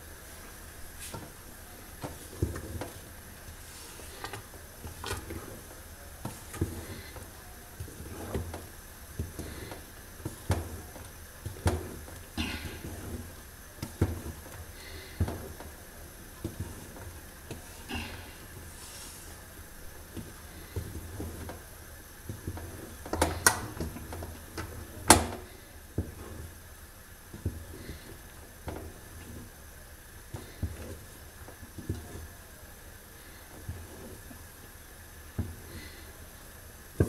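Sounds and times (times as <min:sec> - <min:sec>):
wooden spoon scraping pot: 0:00.4 - 0:21.7, 0:22.3 - 0:26.6, 0:27.3 - 0:29.6, 0:30.3 - 0:32.4, 0:33.3 - 0:34.4.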